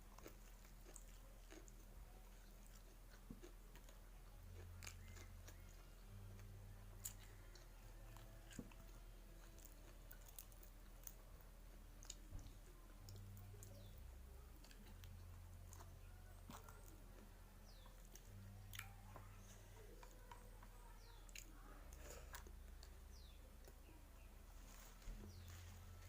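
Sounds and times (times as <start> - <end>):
close chewing with crunches: 0.0 - 26.0.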